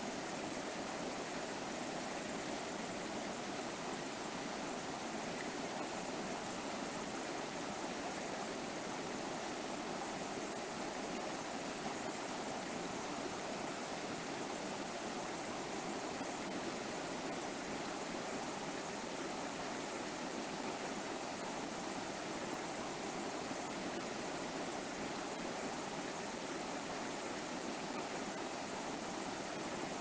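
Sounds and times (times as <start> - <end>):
river flowing over rocks: 0.0 - 30.0.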